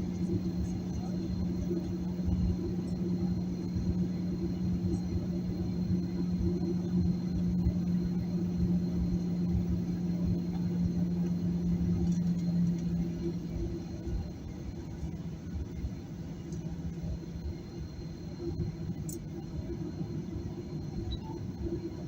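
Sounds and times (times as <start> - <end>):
jet engines idling drone: 0.0 - 22.0.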